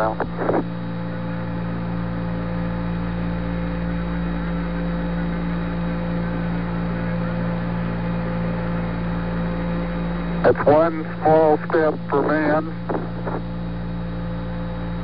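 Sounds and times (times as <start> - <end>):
radio channel hiss and hum: 0.0 - 15.0.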